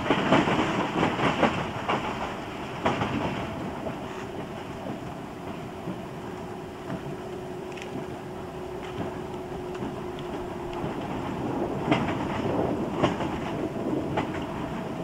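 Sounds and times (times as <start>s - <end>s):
train running rumble: 0.0s - 15.0s
wheels clicking over rail joints: 0.0s - 15.0s.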